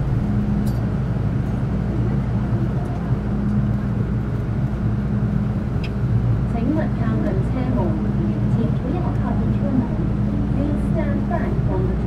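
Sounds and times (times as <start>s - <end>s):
train carriage hum: 0.0s - 12.0s.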